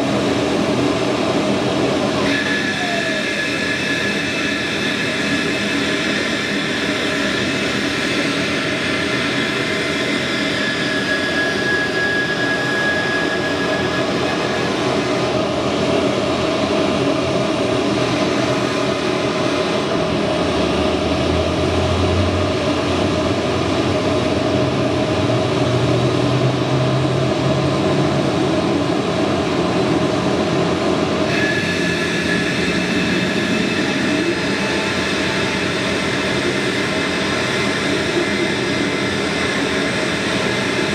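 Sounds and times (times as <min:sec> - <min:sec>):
high whine tone: 0:00.0 - 0:40.9
jet engines whining and rumbling: 0:00.0 - 0:40.9.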